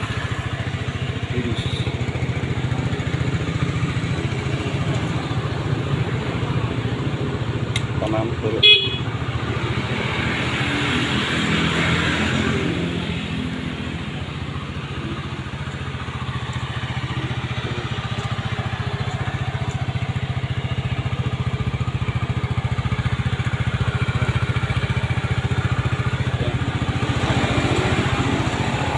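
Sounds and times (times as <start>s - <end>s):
scooter engine idling: 0.0s - 28.9s.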